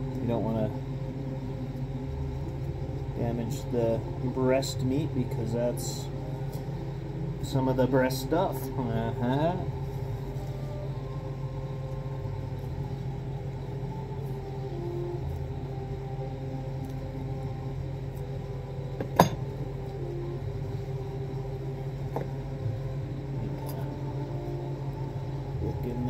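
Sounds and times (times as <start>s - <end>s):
faint steady tones: 0.0s - 26.0s
low mechanical hum: 0.0s - 26.0s.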